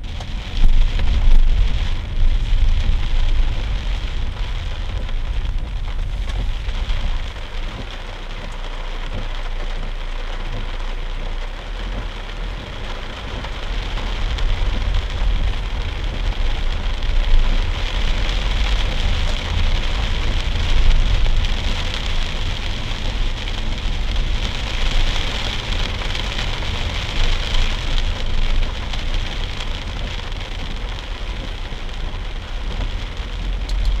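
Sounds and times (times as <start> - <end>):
car engine and tyres rumbling: 0.0 - 34.0
rain on car windshield: 0.0 - 34.0.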